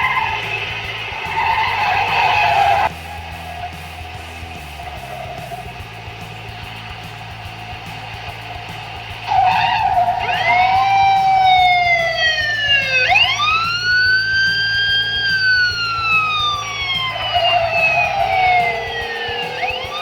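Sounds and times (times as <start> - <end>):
background music: 0.0 - 20.0
car noise: 0.0 - 20.0
police sirens wailing: 0.0 - 20.0.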